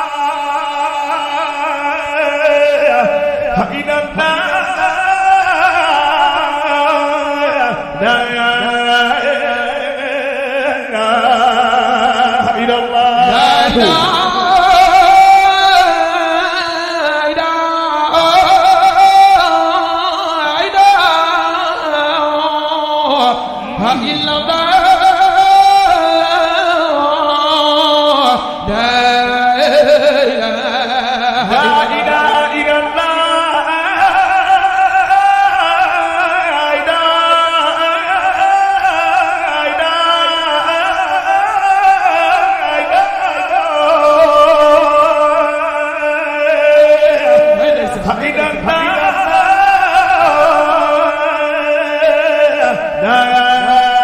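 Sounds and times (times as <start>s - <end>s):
man singing praise: 0.0s - 54.0s.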